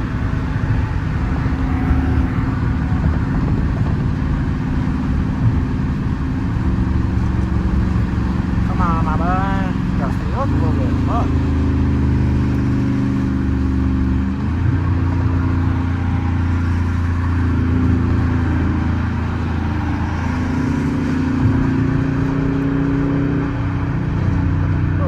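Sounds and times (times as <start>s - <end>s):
loud car exhaust drone: 0.0s - 25.0s.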